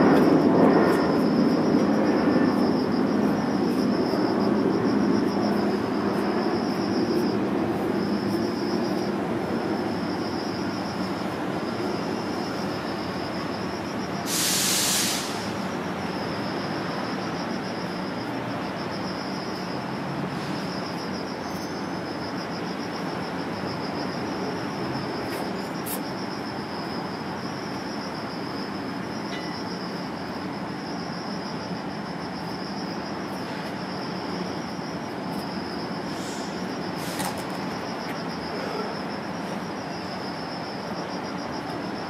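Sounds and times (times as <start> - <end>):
hiss-like background: 0.0 - 42.0
insect high-pitched trill: 0.0 - 42.0.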